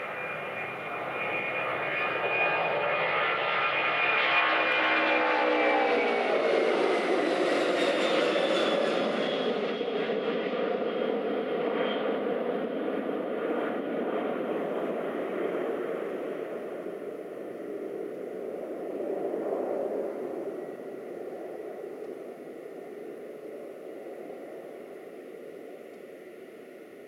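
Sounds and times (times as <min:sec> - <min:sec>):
jet engines roaring at takeoff: 0:00.0 - 0:27.0.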